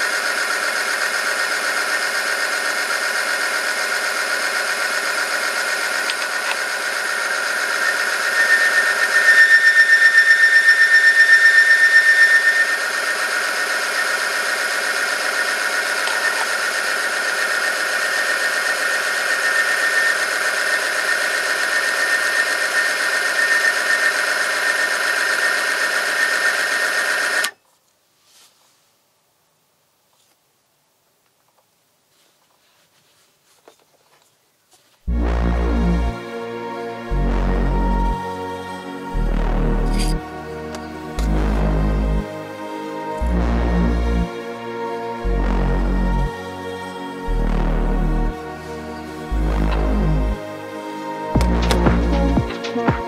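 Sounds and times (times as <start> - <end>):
machine whine of metal rubbing: 0.0 - 27.6, 35.1 - 53.0.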